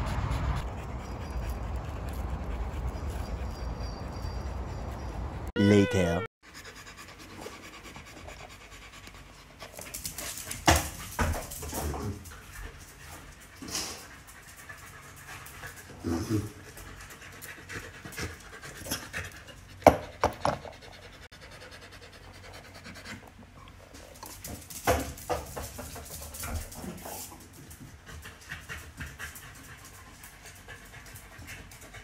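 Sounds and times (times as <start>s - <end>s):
dog panting: 0.0s - 5.5s, 6.4s - 10.8s, 12.0s - 25.0s, 25.9s - 32.0s.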